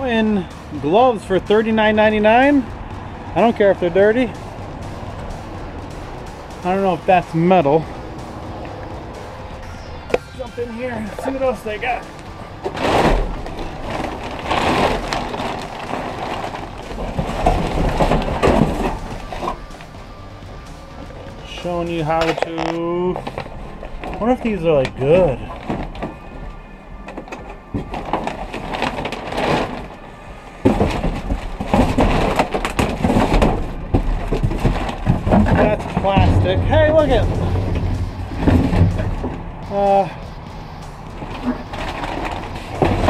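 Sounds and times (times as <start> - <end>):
trash rustling and crackling: 0.0 - 43.0.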